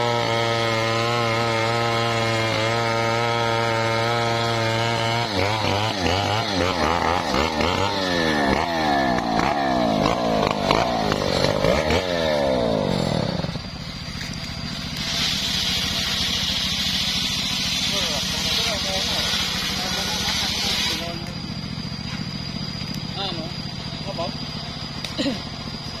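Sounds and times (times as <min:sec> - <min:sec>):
chainsaw revving: 0:00.0 - 0:26.0.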